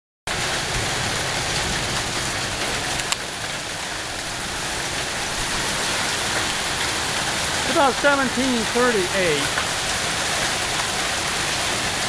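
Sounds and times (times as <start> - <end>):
hail and rain on wooden deck: 0.3 - 12.0.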